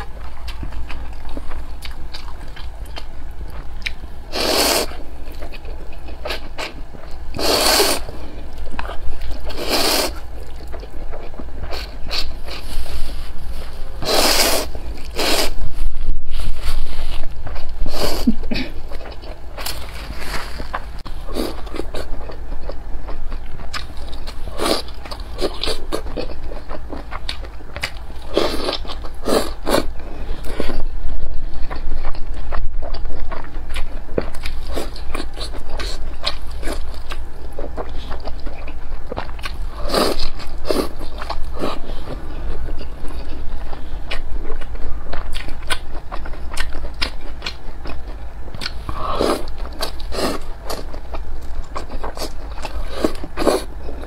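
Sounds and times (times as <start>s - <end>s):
chewing noodles: 0.0s - 12.8s, 17.0s - 54.0s.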